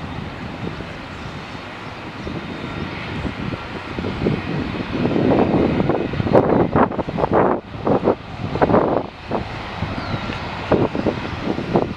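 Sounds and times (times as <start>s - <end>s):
jet engines roaring: 0.0s - 11.9s
wind buffeting microphone: 0.0s - 11.9s.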